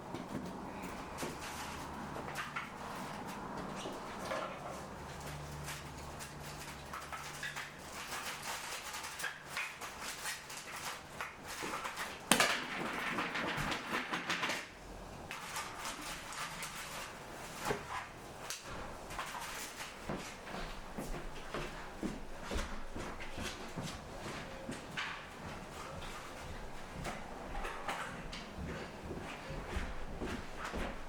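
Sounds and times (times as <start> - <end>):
rustling or scraping: 0.0 - 14.7, 15.3 - 31.0.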